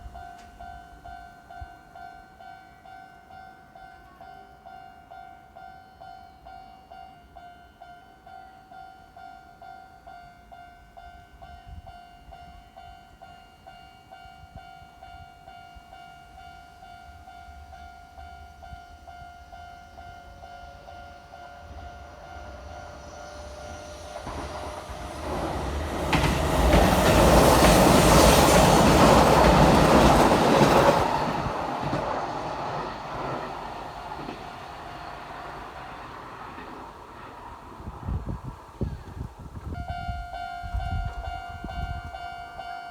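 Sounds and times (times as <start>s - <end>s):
electric train passing: 0.0s - 42.9s.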